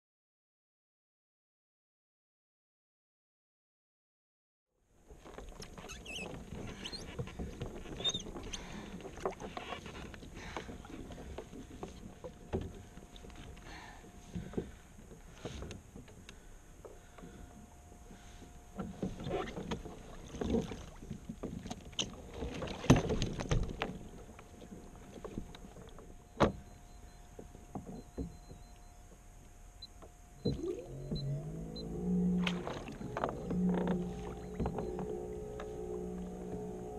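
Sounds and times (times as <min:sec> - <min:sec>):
water splashing against hull: 0:05.1 - 0:36.9
knocks and thumps on boat: 0:05.2 - 0:29.2, 0:30.0 - 0:36.9.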